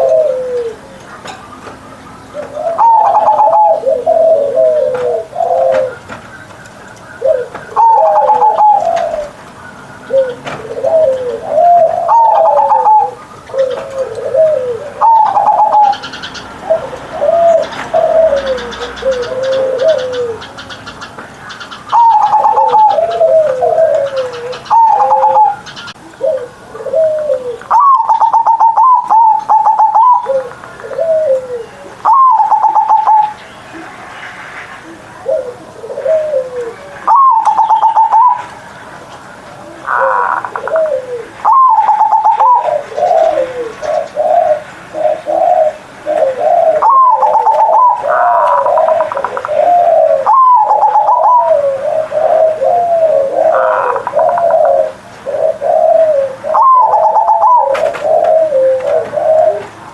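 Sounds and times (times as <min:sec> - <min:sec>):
dove cooing: 0:00.0 - 0:33.4, 0:34.8 - 0:38.6, 0:39.6 - 0:59.9.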